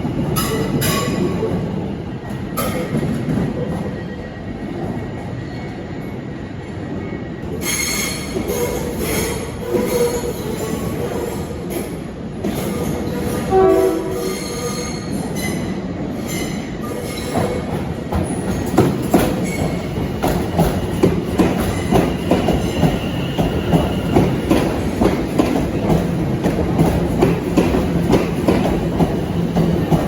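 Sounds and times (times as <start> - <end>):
train wheels squealing: 0.4 - 25.2.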